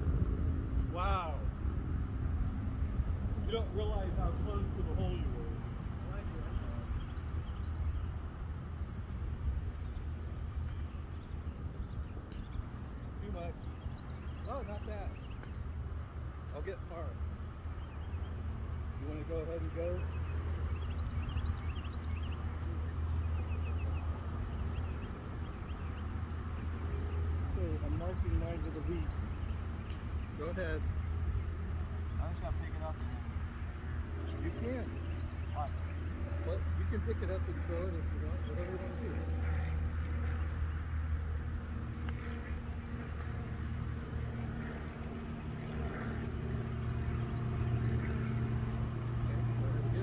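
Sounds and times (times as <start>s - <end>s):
engine low hum: 0.0s - 50.0s
small birds chirping: 2.8s - 50.0s.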